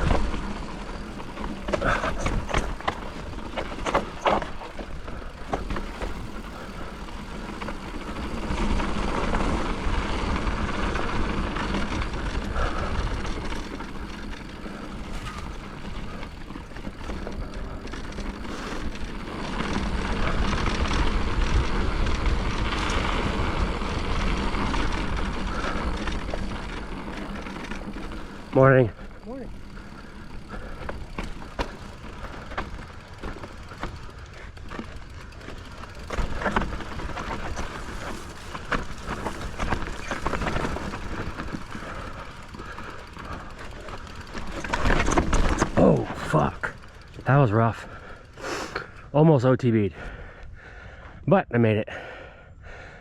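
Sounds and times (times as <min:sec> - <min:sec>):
bike tyres rumbling on dirt: 0:00.0 - 0:51.2.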